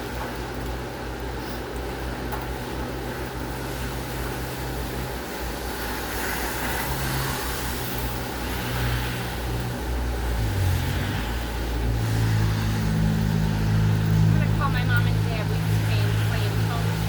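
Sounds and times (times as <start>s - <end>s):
rain on concrete: 0.0s - 17.0s.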